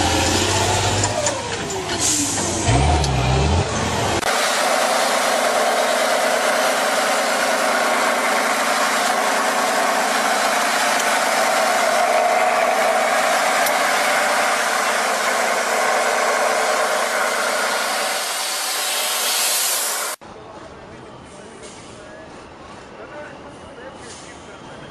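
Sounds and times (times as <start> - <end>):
truck engine running under load: 0.0 - 20.2.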